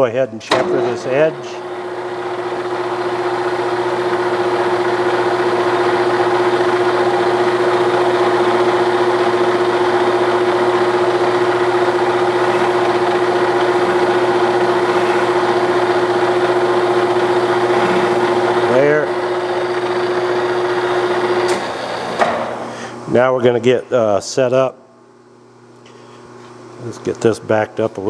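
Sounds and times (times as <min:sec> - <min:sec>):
lathe humming: 0:00.5 - 0:23.3.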